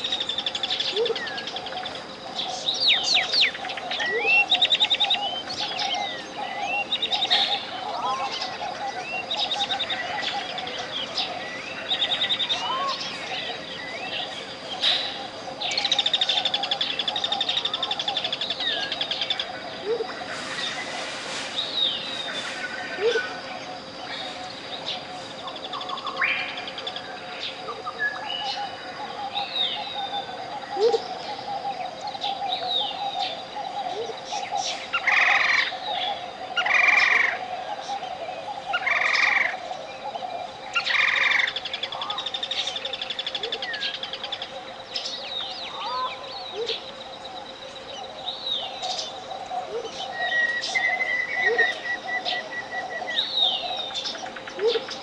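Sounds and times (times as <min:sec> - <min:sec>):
birds chirping and calling: 0:00.0 - 0:55.0.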